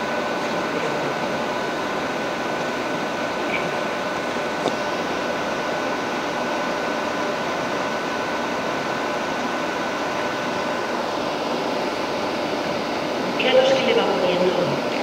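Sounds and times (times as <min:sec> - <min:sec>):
ventilation fan noise: 0:00.0 - 0:15.0.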